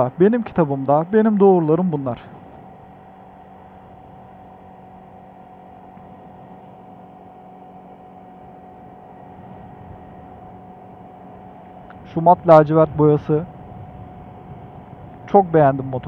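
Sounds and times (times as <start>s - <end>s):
road and wind noise: 0.0s - 16.0s
scooter engine running: 0.0s - 16.0s.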